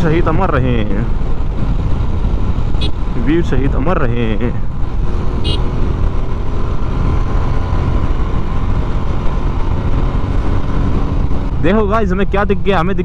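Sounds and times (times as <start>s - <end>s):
motorcycle engine running: 0.0s - 11.9s
wind noise on microphone: 0.3s - 4.0s, 4.6s - 11.7s.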